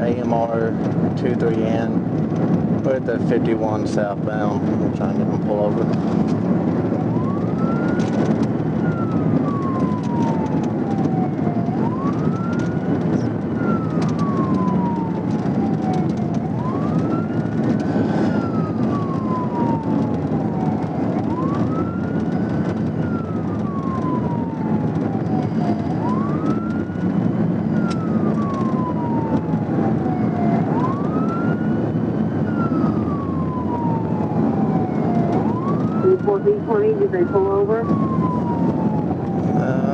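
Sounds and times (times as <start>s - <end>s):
police siren wailing: 0.0s - 39.9s
road and engine noise: 0.0s - 39.9s.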